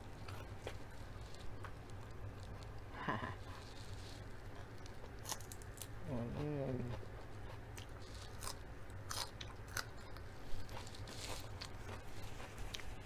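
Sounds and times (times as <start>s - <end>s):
crunching and chewing salad: 0.0s - 13.0s.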